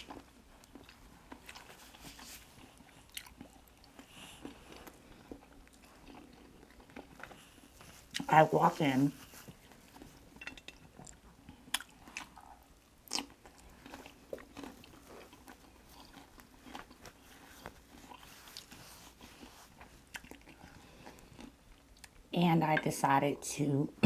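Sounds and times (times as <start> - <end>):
wet chewing and biting: 0.0 - 8.3, 9.5 - 22.2.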